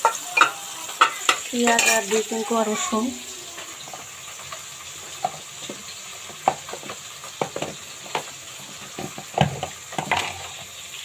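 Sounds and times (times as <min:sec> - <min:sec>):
steady hiss from cooking pot: 0:00.0 - 0:11.0.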